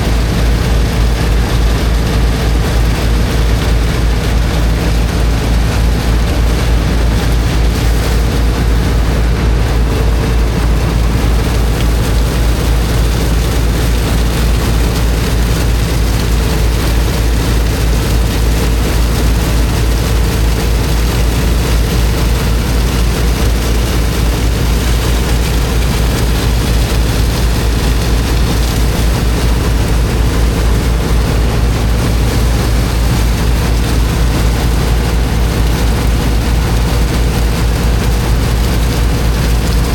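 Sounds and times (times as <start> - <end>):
water jets blasting into sand: 0.0 - 39.9
water pump engine running: 0.0 - 39.9.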